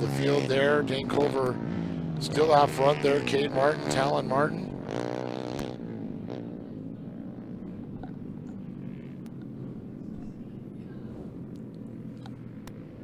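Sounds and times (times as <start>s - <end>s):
distant kart engines droning: 0.0s - 13.0s.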